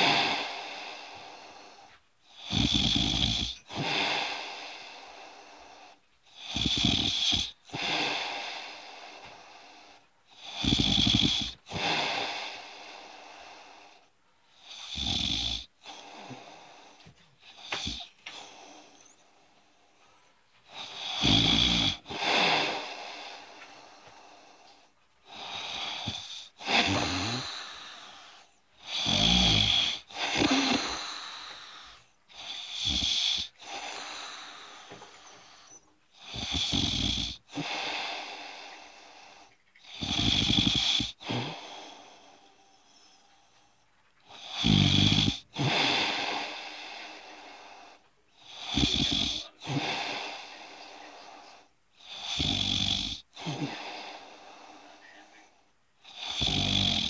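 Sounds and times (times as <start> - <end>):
person snoring: 0.0 - 20.0, 20.7 - 57.0
quiet breathing: 0.0 - 57.0.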